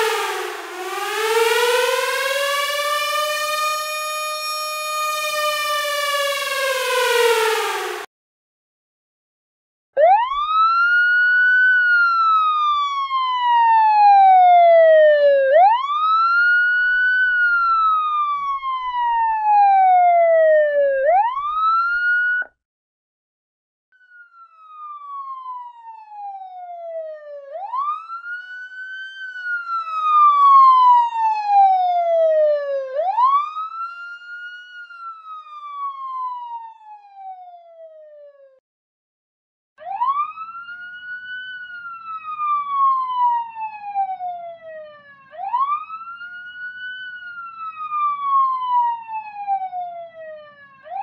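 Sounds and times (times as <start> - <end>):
police siren wailing: 0.0 - 8.1, 10.0 - 22.6, 24.0 - 38.6, 39.8 - 51.0.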